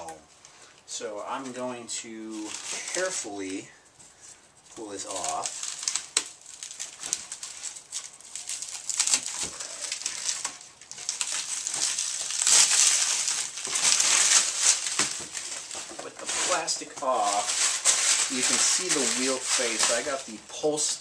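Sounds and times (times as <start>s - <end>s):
plastic film crinkling: 0.0s - 21.0s.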